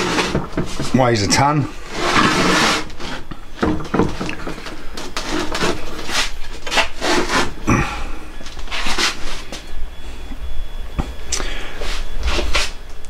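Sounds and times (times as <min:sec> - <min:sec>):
rubbing and scraping noises: 0:00.0 - 0:09.8, 0:11.7 - 0:12.9.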